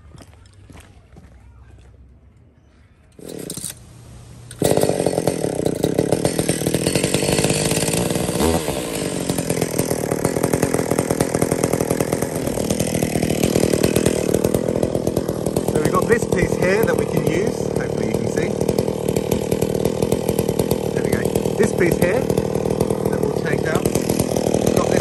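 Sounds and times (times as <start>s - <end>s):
chainsaw running: 3.2s - 25.0s.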